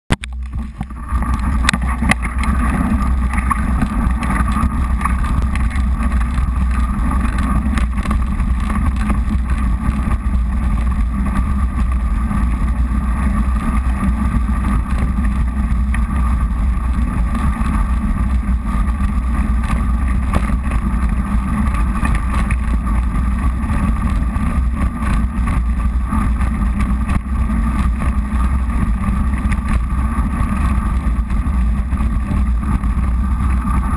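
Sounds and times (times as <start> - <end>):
wind rumble on microphone: 0.1 - 33.9.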